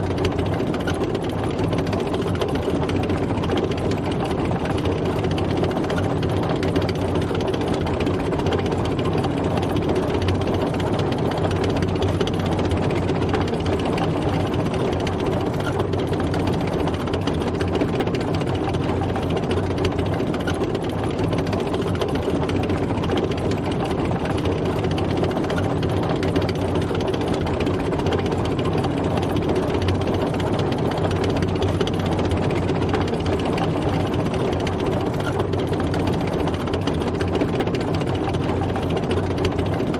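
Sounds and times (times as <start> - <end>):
tank engine running: 0.0 - 39.9.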